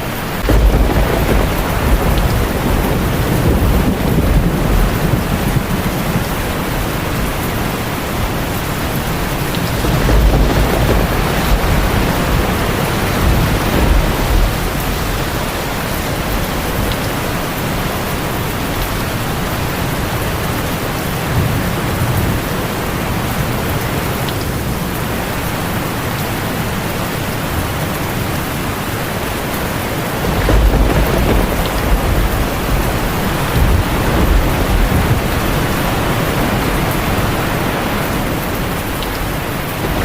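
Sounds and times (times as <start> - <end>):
heavy rain on a tin roof: 0.0 - 40.0
low thunder rumbling: 0.1 - 25.8, 27.4 - 40.0.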